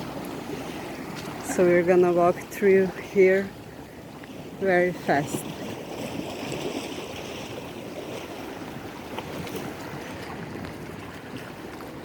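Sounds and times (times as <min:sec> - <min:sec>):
rough sea washing ashore: 0:00.0 - 0:12.0
wind on microphone: 0:00.0 - 0:12.0.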